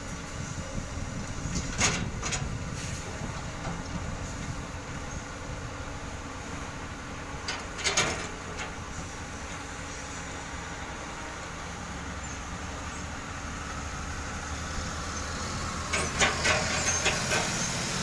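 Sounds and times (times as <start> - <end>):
hydraulic excavator running: 0.0 - 18.0.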